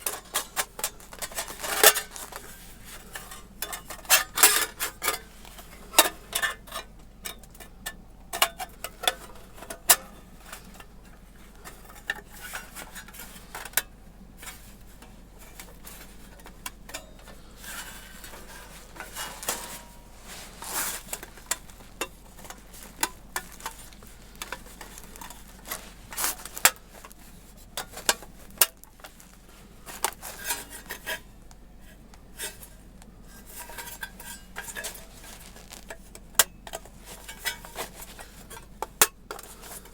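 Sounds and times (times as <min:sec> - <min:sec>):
metal plates clinking and scraping: 0:00.0 - 0:39.9.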